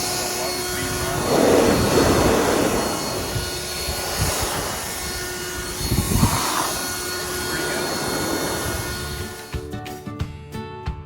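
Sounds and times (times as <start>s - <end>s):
leaf blower running: 0.0s - 9.7s.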